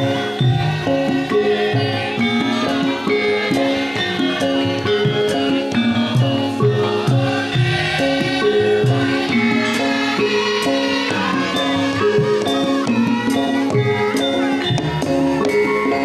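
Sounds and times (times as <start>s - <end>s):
gamelan music with percussion: 0.0s - 16.0s.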